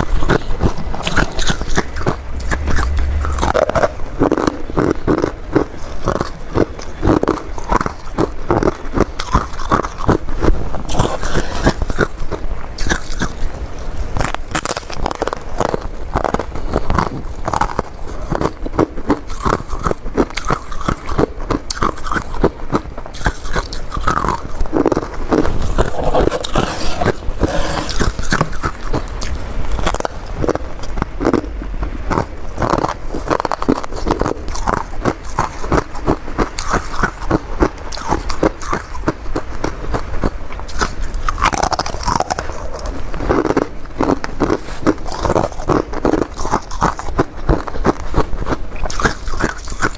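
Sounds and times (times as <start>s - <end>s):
person crunching frost: 0.0s - 49.9s.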